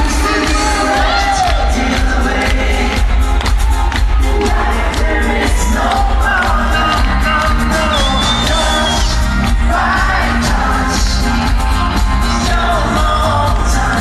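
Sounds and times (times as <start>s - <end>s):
man singing into microphone: 0.0s - 3.2s, 4.3s - 14.0s
electronic backing with bass beat: 0.0s - 14.0s.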